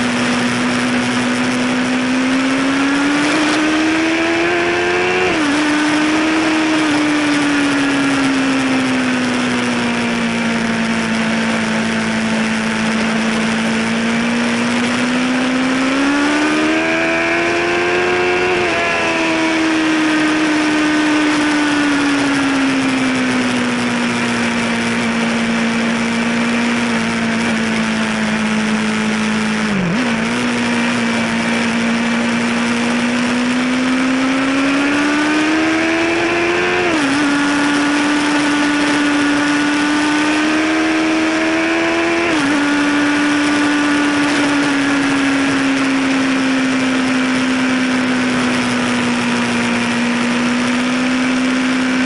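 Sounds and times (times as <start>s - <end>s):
motorcycle engine revving: 0.0s - 52.0s
wind noise: 0.0s - 52.0s.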